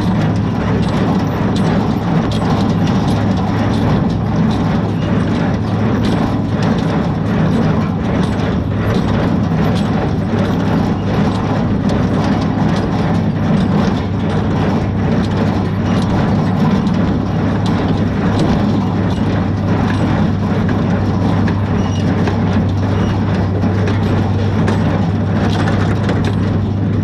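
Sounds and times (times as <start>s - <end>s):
hay baler clattering and knocking: 0.0s - 27.0s
tractor engine drone: 0.0s - 27.0s.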